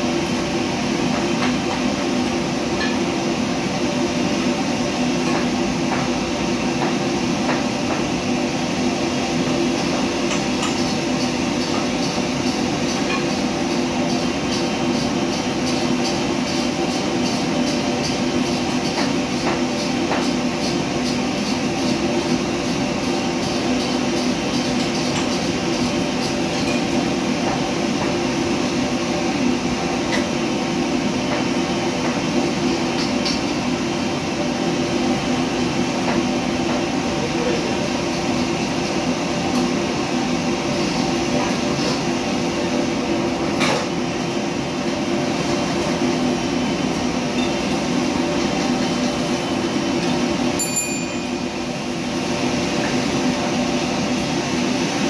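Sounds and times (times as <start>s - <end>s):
kitchen extraction drone: 0.0s - 55.0s.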